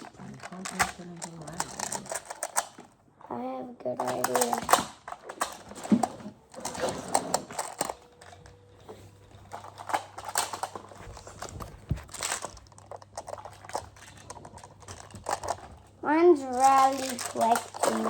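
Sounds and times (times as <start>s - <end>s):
plastic tiles clicking and clattering: 0.0s - 2.8s, 4.0s - 8.5s, 9.5s - 15.8s, 16.4s - 18.0s.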